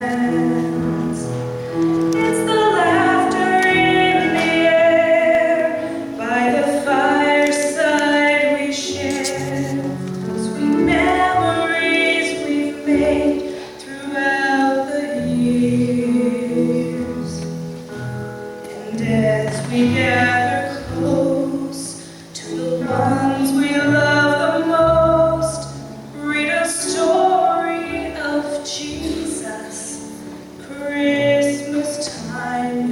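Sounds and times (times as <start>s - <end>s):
woman singing: 0.0s - 17.7s, 18.6s - 32.9s
instrumental accompaniment: 0.0s - 32.9s.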